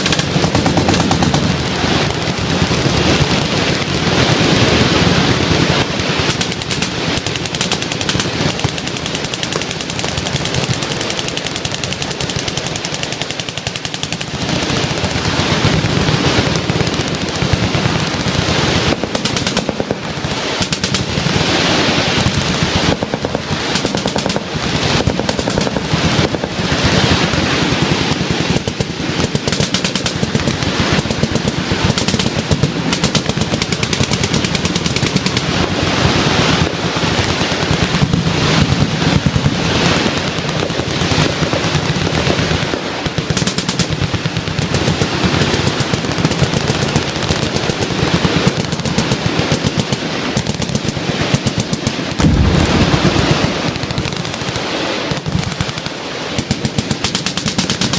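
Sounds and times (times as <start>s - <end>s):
machine guns firing: 0.0s - 57.9s.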